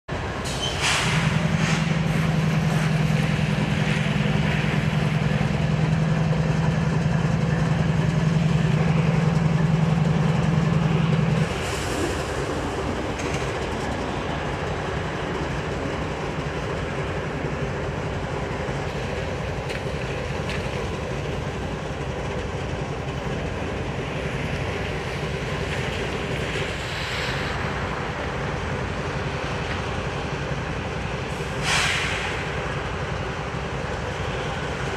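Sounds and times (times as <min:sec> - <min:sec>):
freight cars rumbling on rails: 0:00.0 - 0:34.9.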